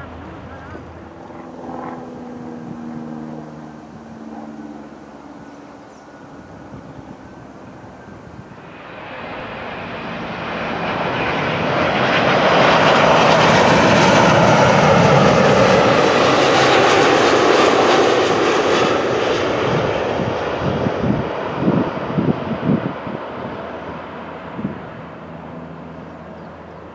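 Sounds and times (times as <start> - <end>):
jet engines passing overhead: 0.0 - 26.9.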